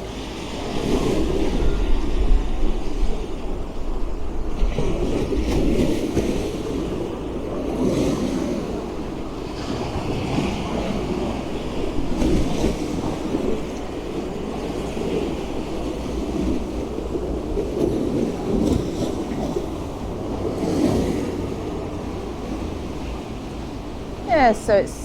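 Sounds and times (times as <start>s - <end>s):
sea waves washing on steps: 0.0s - 25.0s
wind rumbling on microphone: 0.0s - 25.0s.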